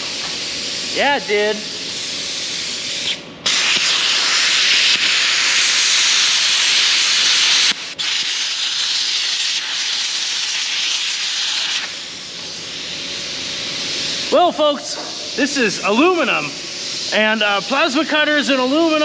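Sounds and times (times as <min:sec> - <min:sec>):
plasma cutter arc hissing: 0:00.0 - 0:19.0.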